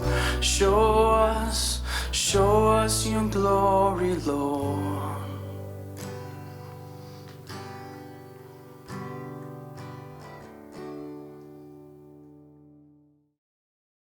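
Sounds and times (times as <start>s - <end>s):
acoustic guitar chords ringing: 0.0s - 12.9s.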